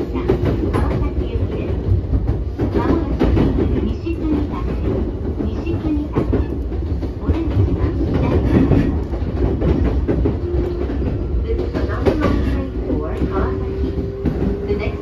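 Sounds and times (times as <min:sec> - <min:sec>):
track clicks and knocks: 0:00.0 - 0:15.0
train wheels rumbling on rail: 0:00.0 - 0:15.0.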